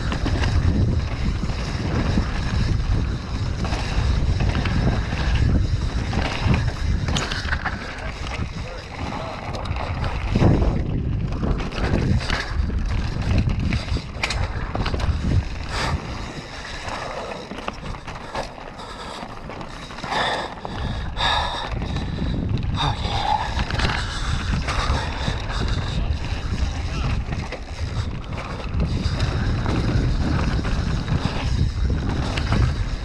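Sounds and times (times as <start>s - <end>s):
bike rattling over bumps: 0.0s - 33.0s
wind buffeting microphone: 0.0s - 33.0s.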